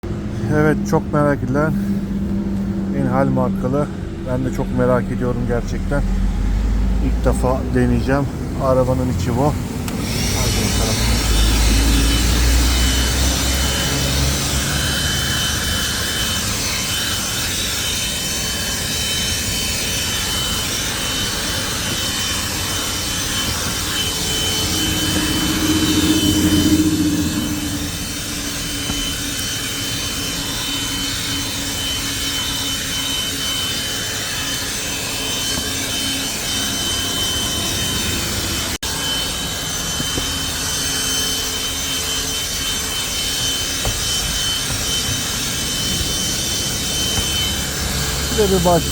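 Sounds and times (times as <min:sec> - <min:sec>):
handheld vacuum cleaner running: 0:09.6 - 0:48.9.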